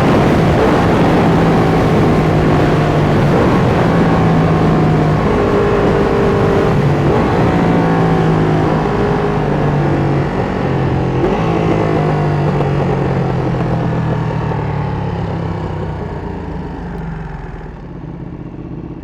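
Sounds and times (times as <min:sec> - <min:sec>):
rushing wind: 0:00.0 - 0:16.8
motorcycle engine running: 0:00.0 - 0:19.0
road noise: 0:00.0 - 0:19.0.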